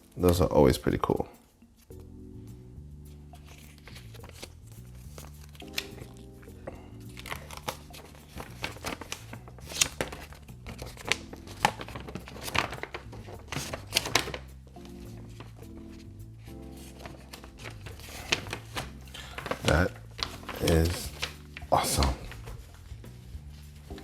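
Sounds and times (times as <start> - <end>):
background music: 0.0 - 24.0
paper packaging crackling and rustling: 3.4 - 24.0.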